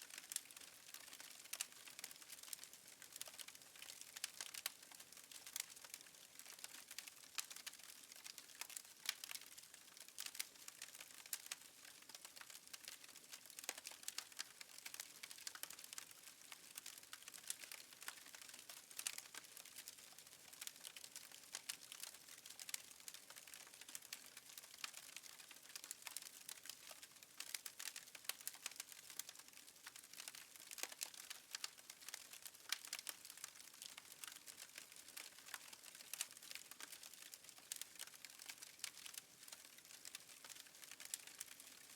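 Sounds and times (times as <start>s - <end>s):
wood fire crackling faintly: 0.0s - 41.9s.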